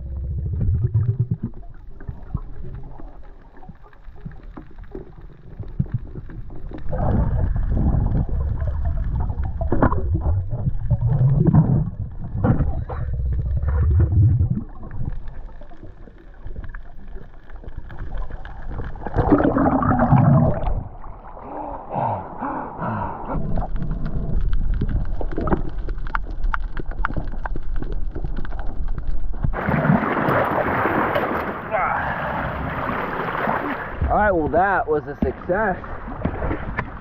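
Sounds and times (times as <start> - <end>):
splashing and bubbling: 0.0 - 34.4, 35.0 - 37.0
muffled underwater rumbling and gurgling: 0.0 - 37.0.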